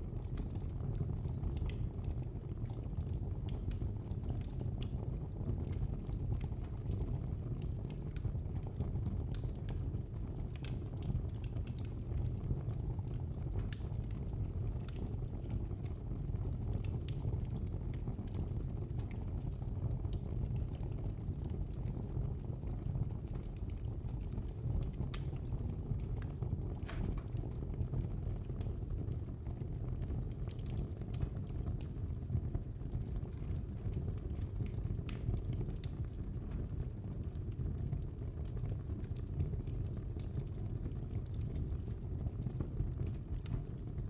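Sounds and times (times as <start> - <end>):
fire crackling and popping: 0.0 - 44.0
low rumble of flames: 0.0 - 44.0.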